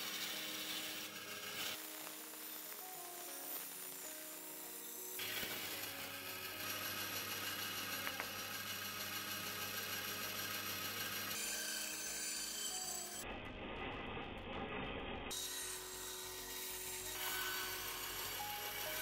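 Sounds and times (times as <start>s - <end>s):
band saw cutting wood: 0.0s - 13.8s, 15.3s - 19.0s.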